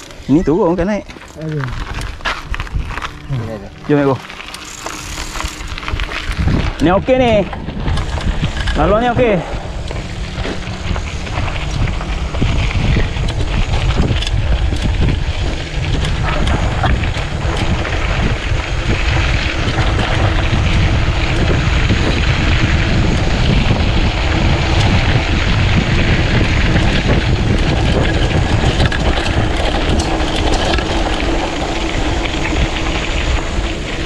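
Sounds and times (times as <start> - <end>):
bike clicks and rattles: 0.0 - 34.0
tyres rumbling on loose ground: 0.0 - 34.0
wind noise on microphone: 0.0 - 34.0.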